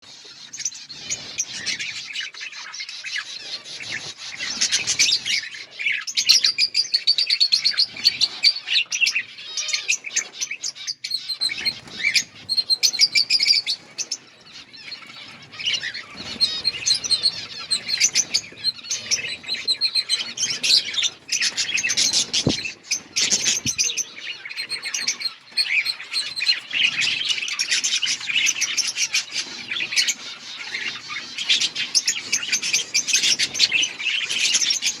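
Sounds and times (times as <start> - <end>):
budgerigars chirping: 0.1 - 35.0.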